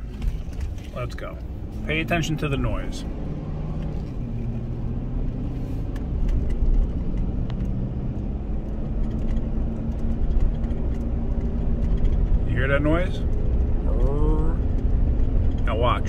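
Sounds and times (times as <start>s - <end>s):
truck rumbling: 0.0s - 16.0s.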